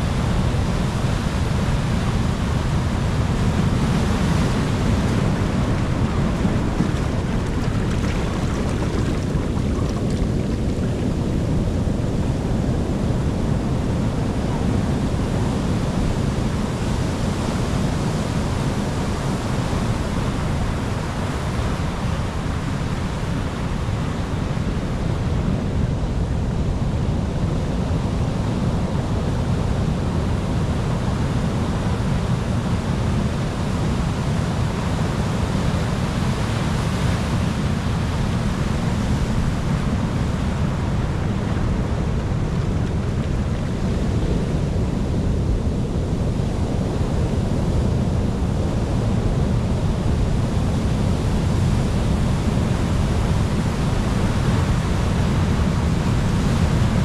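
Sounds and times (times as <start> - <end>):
ocean waves washing: 0.0 - 26.8, 31.9 - 57.0.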